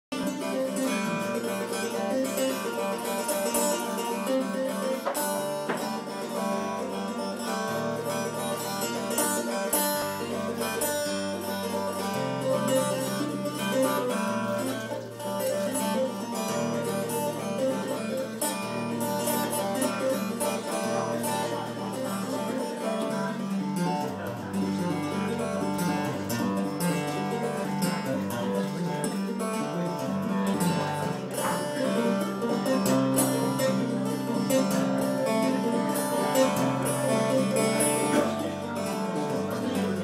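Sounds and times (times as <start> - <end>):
acoustic guitar music: 0.0 - 40.0.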